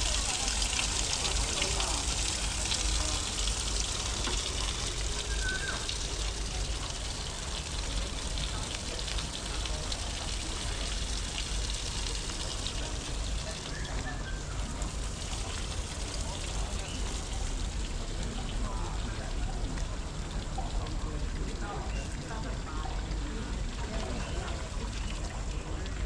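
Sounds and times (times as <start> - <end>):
faint voices: 0.0 - 26.0
trickling water: 0.0 - 26.0.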